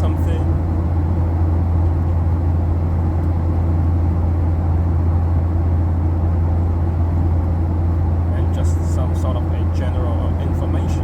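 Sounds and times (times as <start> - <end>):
airplane cabin engine drone: 0.0 - 11.0.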